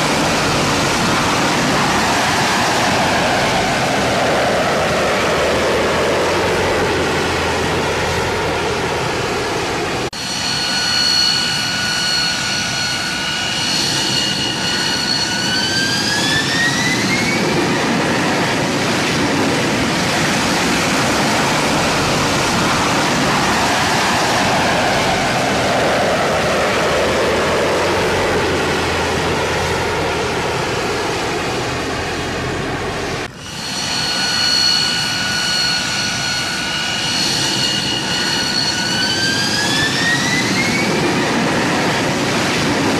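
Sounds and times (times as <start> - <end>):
high turbine whine: 0.0 - 42.9
jet engines roaring: 0.0 - 42.9.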